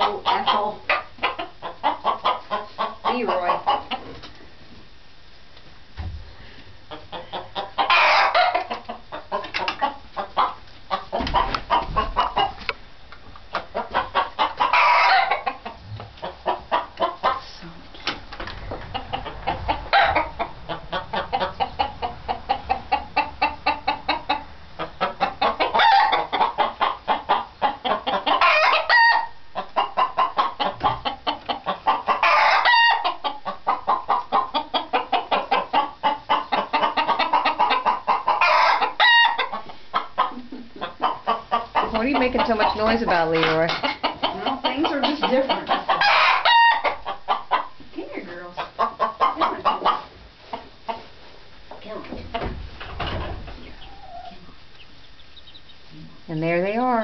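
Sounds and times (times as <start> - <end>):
chicken calls: 0.0 - 4.2, 6.8 - 17.6, 18.3 - 57.0
chickens clucking: 0.0 - 4.8, 5.6 - 57.0.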